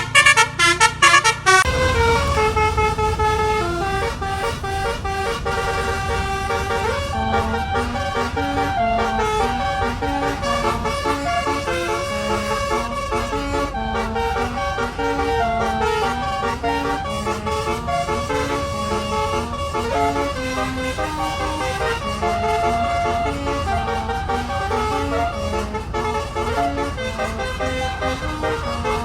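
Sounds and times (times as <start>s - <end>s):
truck engine rumble: 0.0s - 29.0s
truck musical horn melody: 0.0s - 29.0s.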